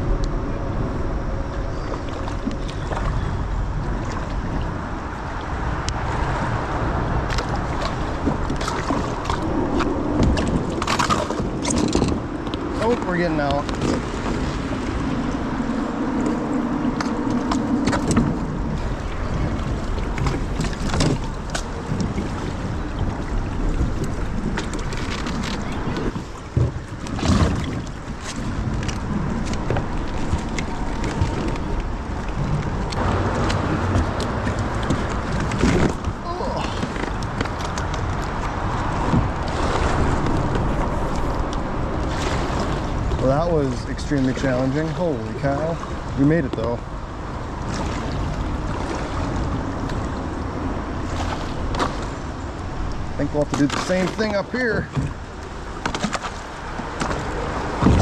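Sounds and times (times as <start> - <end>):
creek water flowing: 0.0 - 58.0
wind buffeting microphone: 0.0 - 58.0
kayak knocking and scraping: 0.3 - 58.0.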